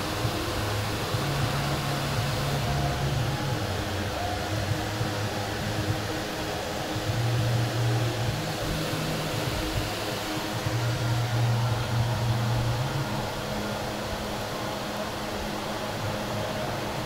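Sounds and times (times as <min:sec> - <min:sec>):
deep low drone: 0:00.0 - 0:17.0
steady mechanical hum: 0:00.0 - 0:17.0.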